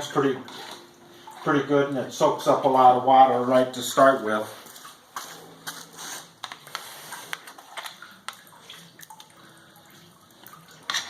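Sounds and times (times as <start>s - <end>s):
water dripping and splashing: 0.0s - 11.0s.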